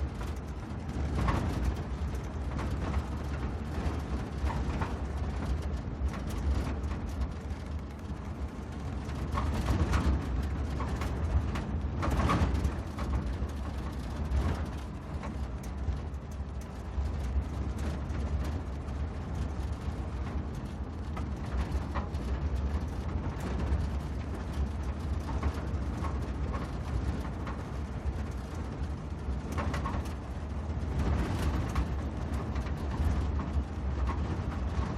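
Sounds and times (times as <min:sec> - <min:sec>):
vehicle engine rumble: 0:00.0 - 0:34.9.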